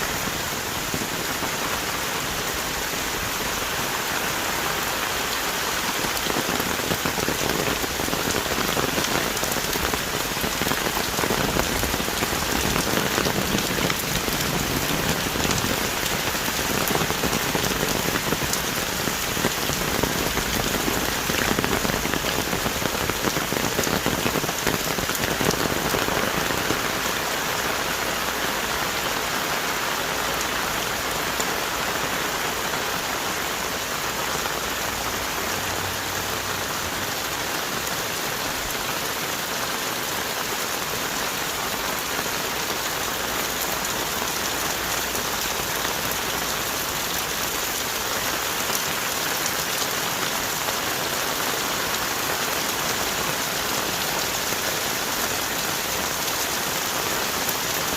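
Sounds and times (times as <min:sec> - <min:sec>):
heavy rain on trees: 0:00.0 - 0:57.9.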